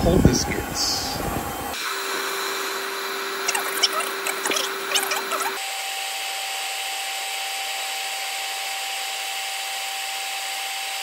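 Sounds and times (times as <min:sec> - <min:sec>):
air blower running: 0:00.0 - 0:11.0.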